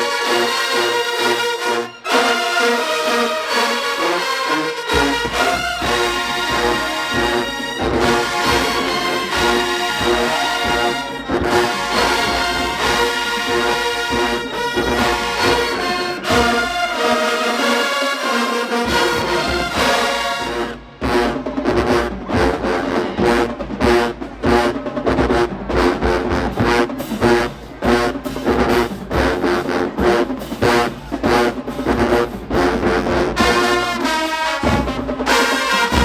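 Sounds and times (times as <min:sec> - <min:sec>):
marching band brass playing: 0:00.0 - 0:36.0.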